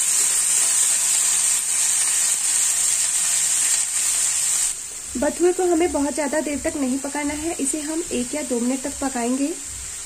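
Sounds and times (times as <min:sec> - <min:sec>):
leaves sizzling in hot oil: 0:00.0 - 0:10.0.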